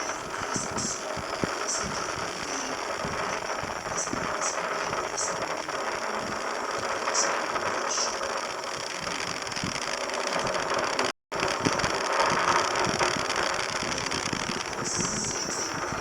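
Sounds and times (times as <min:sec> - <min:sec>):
rocket engines crackling rumble: 0:00.0 - 0:16.0.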